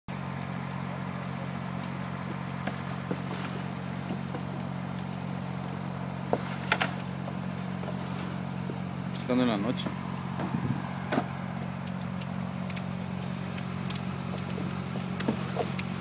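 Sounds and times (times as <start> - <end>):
low motor hum: 0.1 - 16.0.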